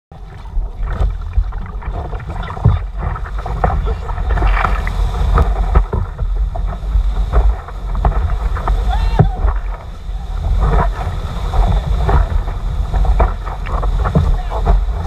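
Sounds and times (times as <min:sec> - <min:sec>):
water rushing and splashing: 0:00.1 - 0:15.0
wind buffeting microphone: 0:00.1 - 0:15.0
sharp splashes and knocks: 0:00.2 - 0:15.0.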